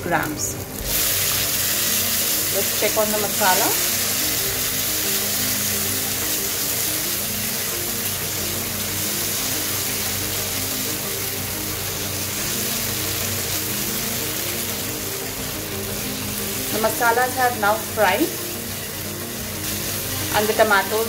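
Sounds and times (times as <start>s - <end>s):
background music: 0.0s - 21.0s
paste sizzling in a pan: 0.5s - 21.0s.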